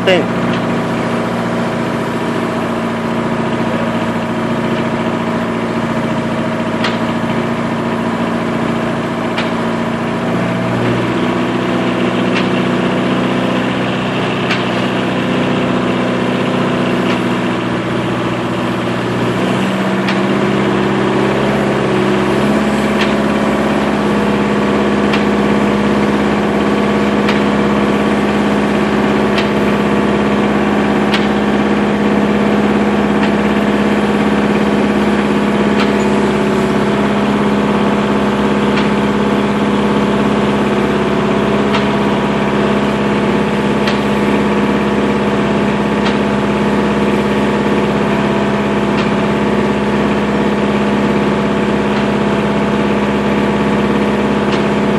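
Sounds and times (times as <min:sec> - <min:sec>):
sawmill machinery hum: 0:00.0 - 0:54.9.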